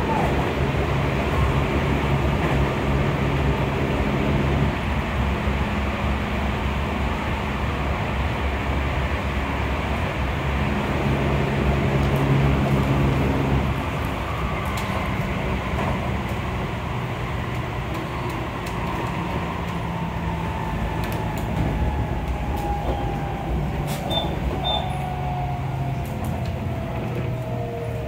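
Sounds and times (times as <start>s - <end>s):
wheels rumbling on rail: 0.0s - 28.0s.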